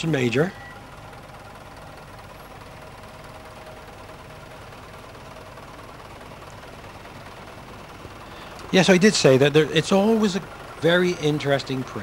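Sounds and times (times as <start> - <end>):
tractor engines running: 0.0 - 12.0.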